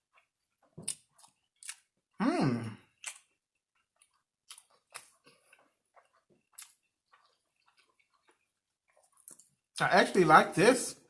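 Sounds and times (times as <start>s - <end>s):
person chewing food: 0.0s - 9.8s.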